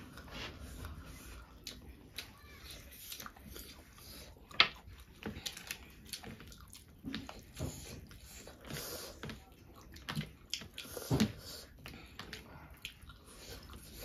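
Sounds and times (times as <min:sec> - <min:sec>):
mouth chewing and smacking: 0:00.8 - 0:14.0.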